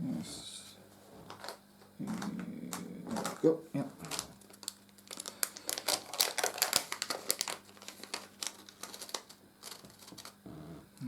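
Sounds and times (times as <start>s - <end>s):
faint steady hum: 0.0s - 11.0s
plastic packaging clicks and crinkles: 1.3s - 10.4s.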